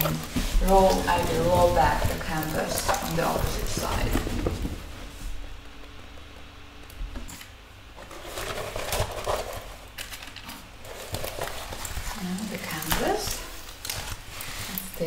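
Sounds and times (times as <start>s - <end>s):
paper and plastic crinkling: 0.0s - 5.7s, 8.0s - 15.0s.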